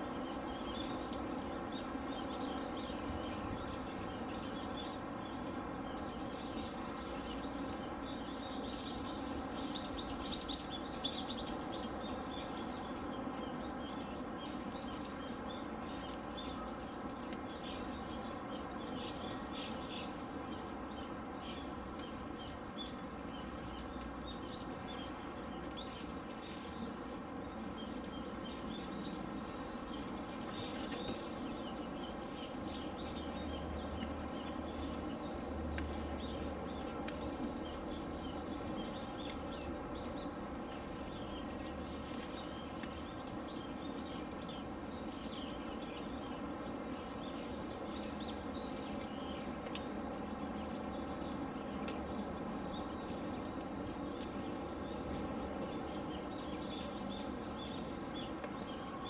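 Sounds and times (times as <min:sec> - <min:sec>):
small birds chirping: 0:00.0 - 0:59.0
steady background hum: 0:00.0 - 0:59.0.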